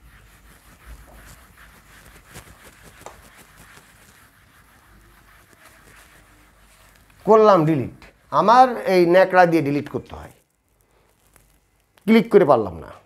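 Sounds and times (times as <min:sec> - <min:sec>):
cloth wiping a whiteboard: 0:00.0 - 0:11.8.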